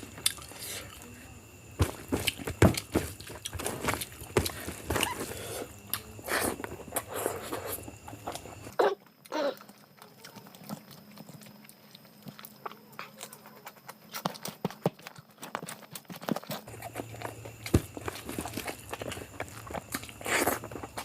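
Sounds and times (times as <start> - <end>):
person chewing with lip smacks: 0.2 - 1.0, 2.2 - 21.0.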